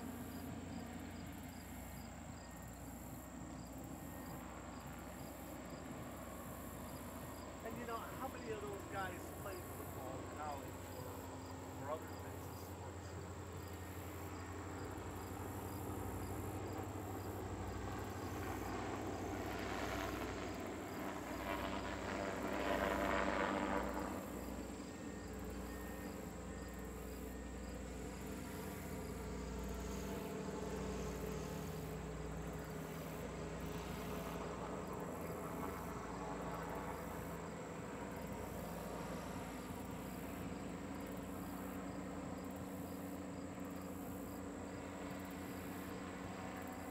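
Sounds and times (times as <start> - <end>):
airship propeller engines droning: 0.0 - 46.9
faint insect chirping: 0.0 - 46.9.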